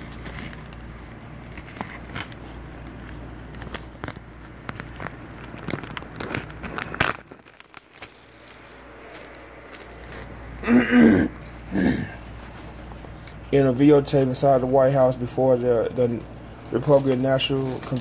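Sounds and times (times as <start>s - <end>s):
newspaper pages rustling: 0.0s - 10.7s, 11.4s - 18.0s.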